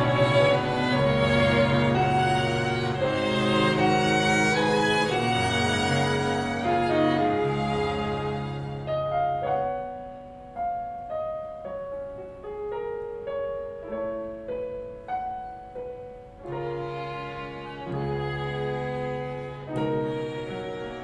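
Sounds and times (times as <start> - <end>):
string quartet and piano: 0.0 - 21.0.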